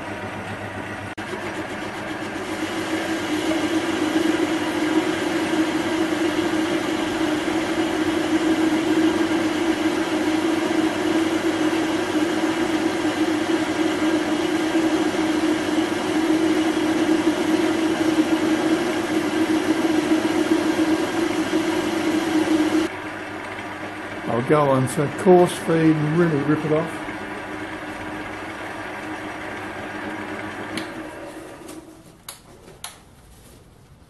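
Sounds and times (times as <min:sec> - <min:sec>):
metal lathe motor drone: 0:00.0 - 0:31.3.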